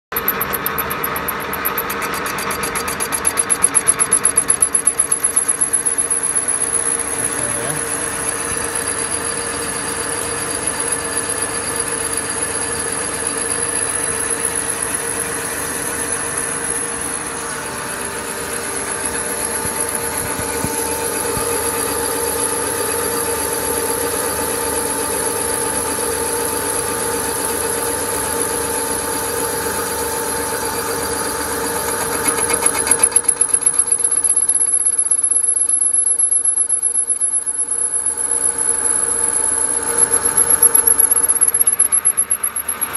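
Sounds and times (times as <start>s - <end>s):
lathe boring bar cutting metal: 0.2s - 42.9s.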